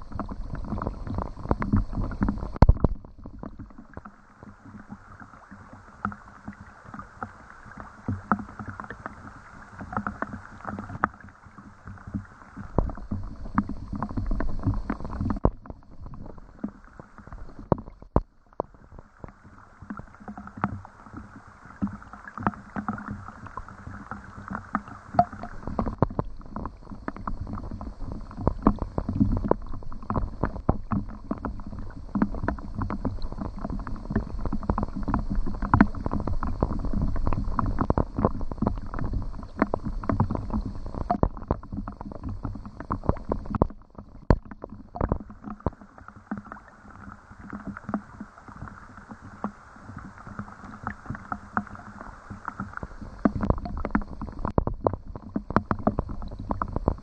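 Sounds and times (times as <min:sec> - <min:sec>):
low rumble of water and wind: 0:00.0 - 0:57.0.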